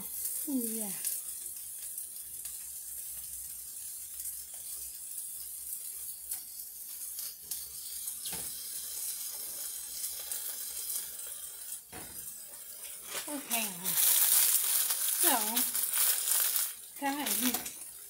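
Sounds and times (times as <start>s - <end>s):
skewers sizzling in a frying pan: 0.0s - 18.0s.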